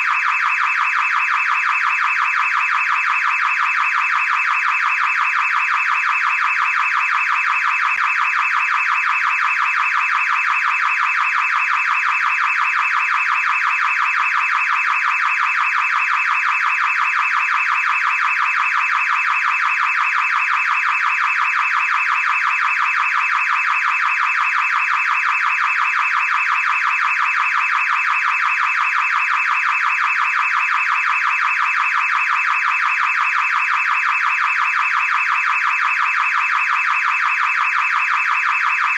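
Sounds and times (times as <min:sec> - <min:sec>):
car alarm siren: 0:00.0 - 0:38.9.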